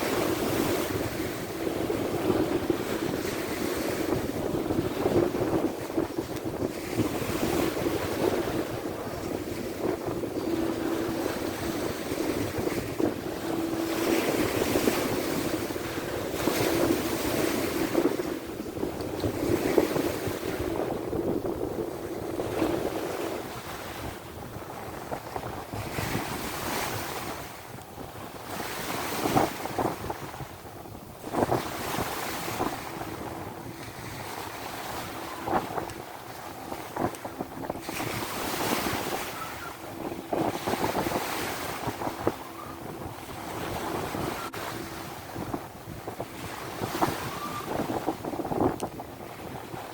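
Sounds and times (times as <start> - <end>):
sea waves washing ashore: 0.0 - 49.9
wind buffeting microphone: 0.0 - 49.9.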